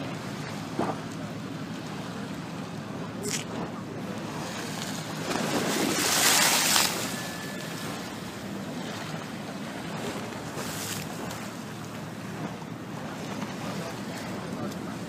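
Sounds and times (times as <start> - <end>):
waves splashing against wall: 0.0 - 15.0.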